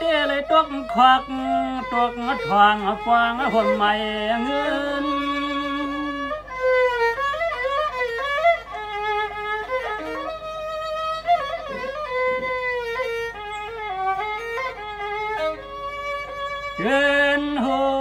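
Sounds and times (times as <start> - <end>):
bowed fiddle melody: 0.0 - 18.0.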